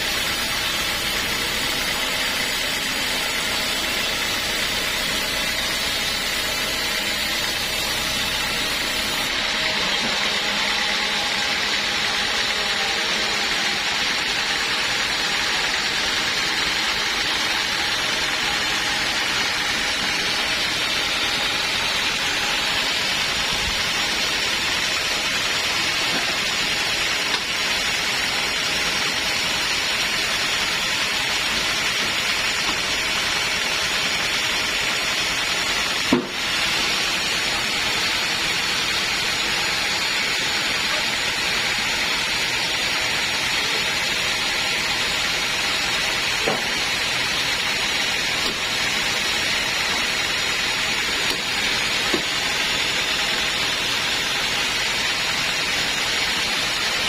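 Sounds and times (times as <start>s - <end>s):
saw cutting wood: 0.0s - 57.0s.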